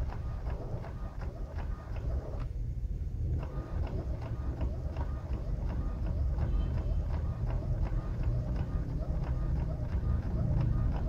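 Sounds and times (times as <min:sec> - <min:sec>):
inkjet printer printing: 0:00.0 - 0:02.6, 0:03.2 - 0:11.0
printer ticking: 0:00.0 - 0:02.6, 0:03.2 - 0:11.0.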